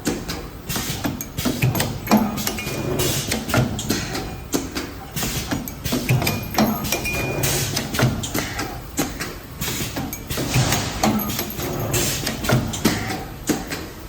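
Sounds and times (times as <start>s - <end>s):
machine metallic clicks and knocks: 0.0s - 13.9s.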